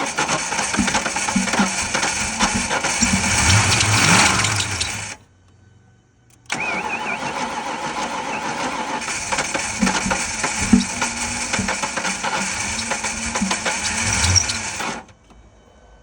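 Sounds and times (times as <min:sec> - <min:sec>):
starter cranking car engine: 0:00.0 - 0:05.2, 0:06.3 - 0:15.1.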